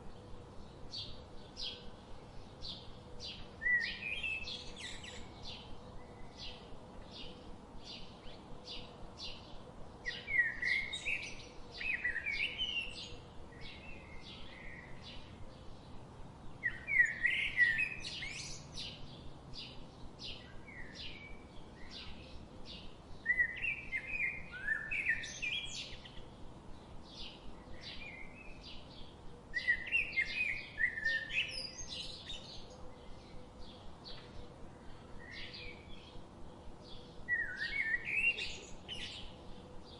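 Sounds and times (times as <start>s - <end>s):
bird warbling song: 0.0s - 36.2s, 36.8s - 39.9s
bird chirping: 0.0s - 39.9s.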